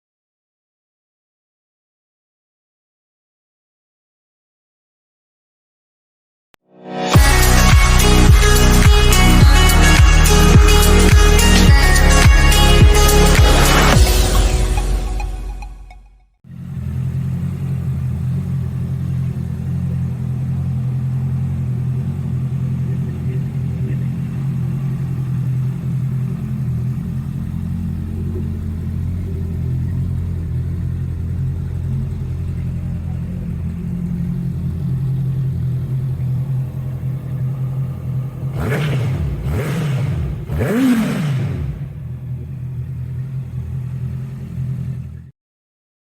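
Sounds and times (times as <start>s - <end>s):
motorcycle engine idling and revving: 7.2s - 45.4s.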